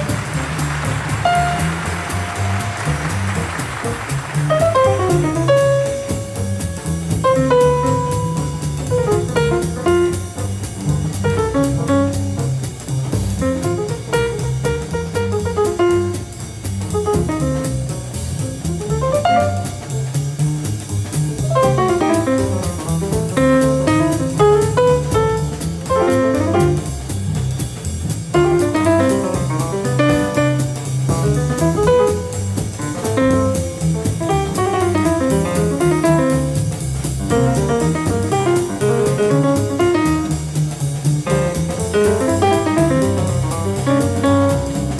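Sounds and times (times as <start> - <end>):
drums keeping time: 0.0 - 44.9
jazz piano solo: 0.0 - 44.9
walking double bass: 0.0 - 44.9.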